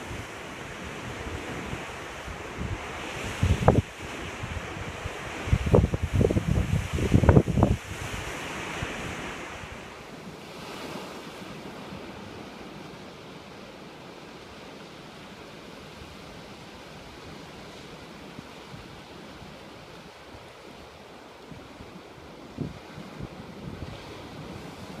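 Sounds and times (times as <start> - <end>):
wind rumbling on microphone: 0.0 - 12.7, 16.0 - 25.0
ocean waves washing over rocks: 0.0 - 25.0.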